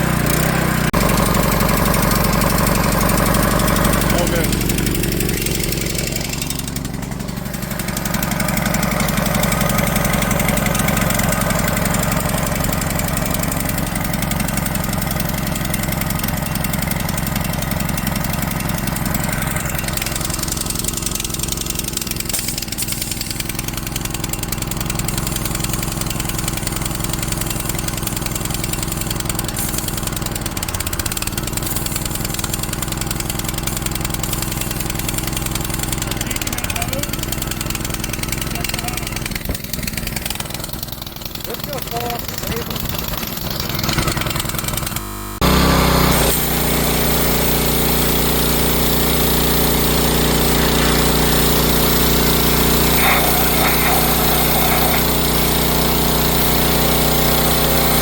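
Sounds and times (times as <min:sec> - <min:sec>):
pressure washer engine running: 0:00.0 - 0:58.0.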